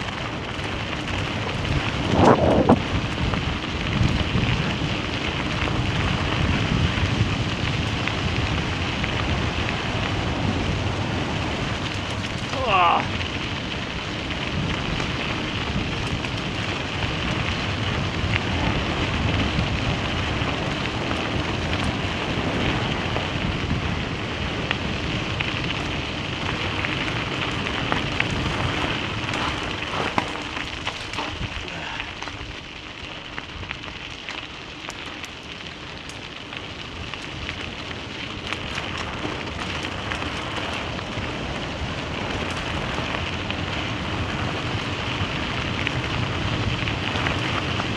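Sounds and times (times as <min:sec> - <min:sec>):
engine rumble: 0:00.0 - 0:47.9
tyres crunching on gravel: 0:00.0 - 0:47.9.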